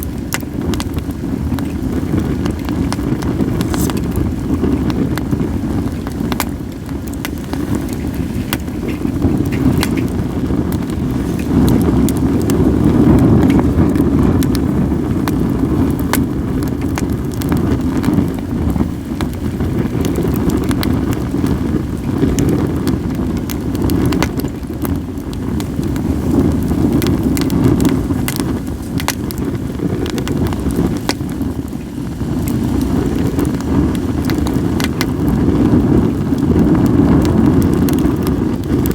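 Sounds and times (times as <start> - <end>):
sharp pops of fire: 0.0 - 38.9
wind rumble on microphone: 0.0 - 38.9
wood fire crackling: 0.0 - 38.9.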